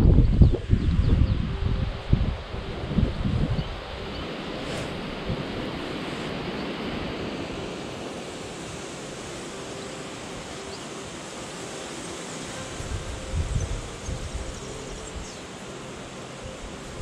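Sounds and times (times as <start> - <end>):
steady wind rushing: 0.0 - 17.0.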